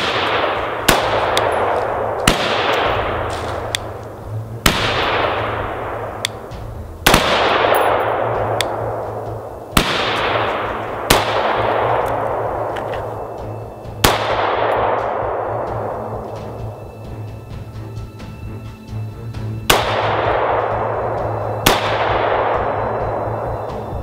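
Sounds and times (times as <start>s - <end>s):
rifle shots with echoing tail: 0.0s - 16.6s, 19.7s - 23.7s.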